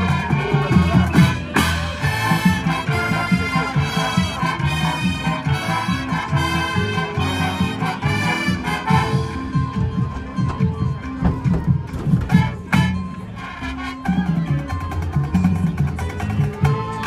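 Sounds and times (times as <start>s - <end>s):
drums beating: 0.0s - 17.0s
marching band playing: 0.0s - 17.0s.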